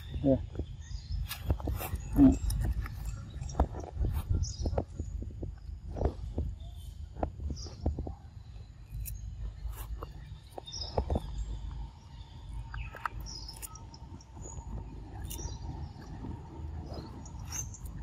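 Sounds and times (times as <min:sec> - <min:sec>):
birds chirping: 0:00.0 - 0:18.0
insects droning: 0:00.0 - 0:18.0
low rumble: 0:00.0 - 0:18.0.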